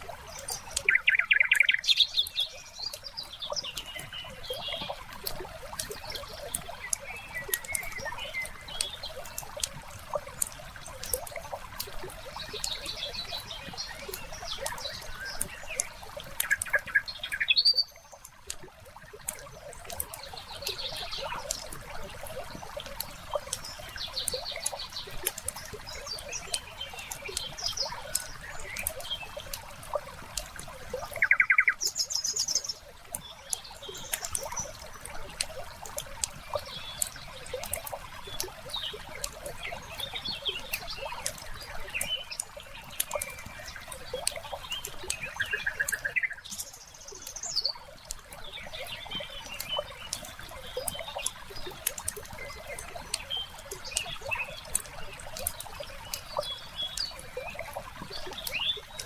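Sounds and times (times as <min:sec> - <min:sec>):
songbirds calling: 0:00.0 - 0:59.0.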